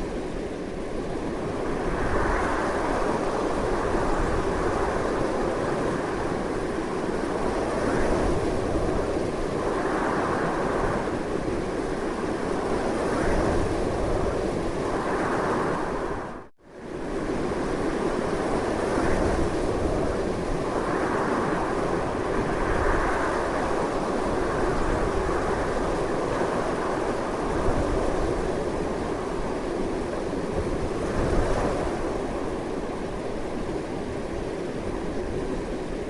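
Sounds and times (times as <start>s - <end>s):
strong wind gusting: 0.0s - 36.0s.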